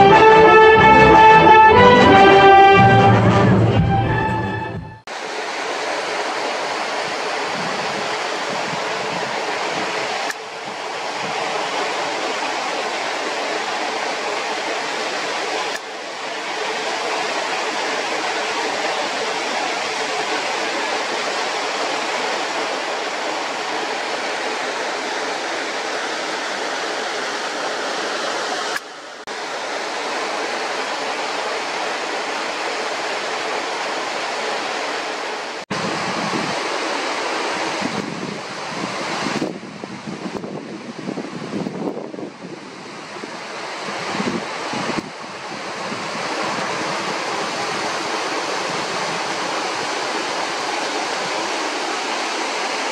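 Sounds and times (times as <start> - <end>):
waterfall rushing: 0.0 - 4.3, 5.1 - 41.6, 42.2 - 52.9.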